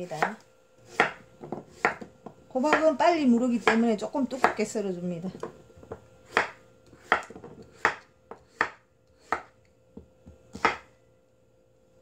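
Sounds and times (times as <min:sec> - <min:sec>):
knife chopping on wooden board: 0:00.0 - 0:04.6, 0:05.4 - 0:10.9.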